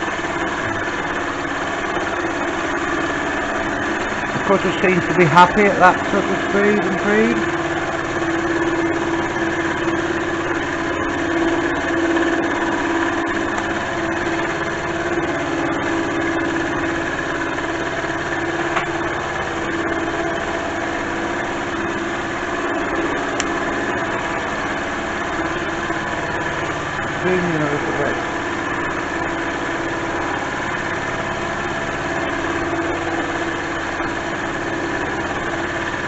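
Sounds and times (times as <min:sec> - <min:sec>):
milling machine cutting steel: 0:00.0 - 0:36.0.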